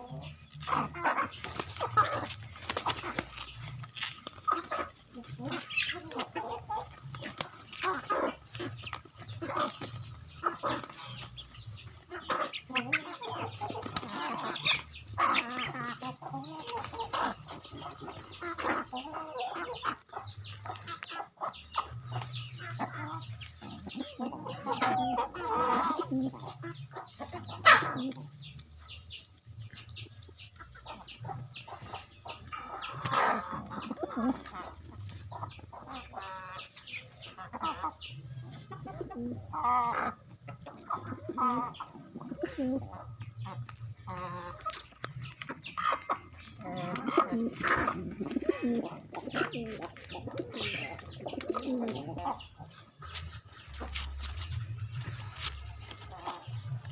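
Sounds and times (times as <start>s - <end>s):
chickens clucking: 0.0s - 56.9s.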